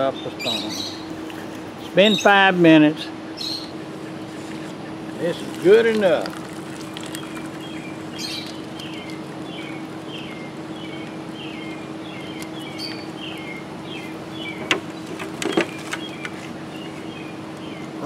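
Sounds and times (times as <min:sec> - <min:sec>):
steady low hum: 0:00.0 - 0:18.0
small bird chirping: 0:00.2 - 0:02.3, 0:03.3 - 0:18.0.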